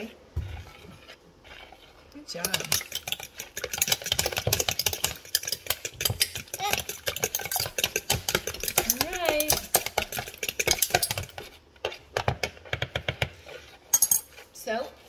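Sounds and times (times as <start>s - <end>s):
cutlery whisking eggs in bowl: 0.0s - 15.0s.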